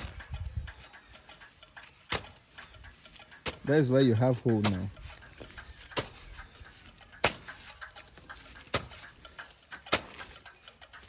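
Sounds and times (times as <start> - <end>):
hand tool striking soil: 0.0 - 11.0.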